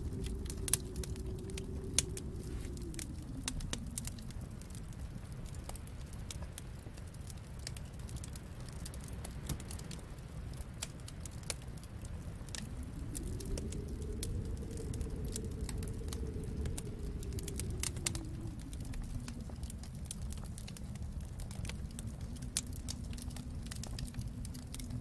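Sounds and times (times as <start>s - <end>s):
low steady rumble: 0.0s - 25.0s
wood fire crackling and popping: 0.0s - 25.0s.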